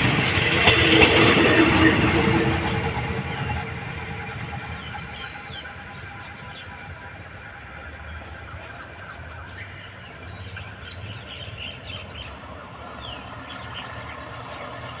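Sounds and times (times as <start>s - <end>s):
train rumbling slowly: 0.0s - 15.0s.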